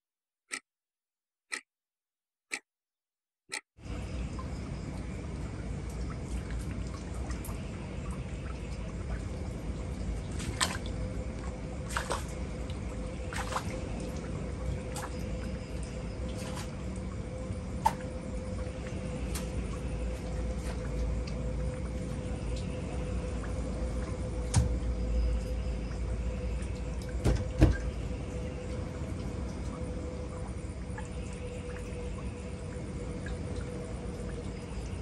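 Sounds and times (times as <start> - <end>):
faint hum: 3.8 - 35.0
low rumble: 4.0 - 35.0.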